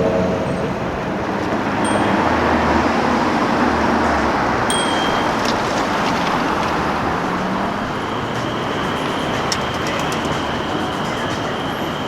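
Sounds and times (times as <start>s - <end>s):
cars going by: 0.0s - 12.0s.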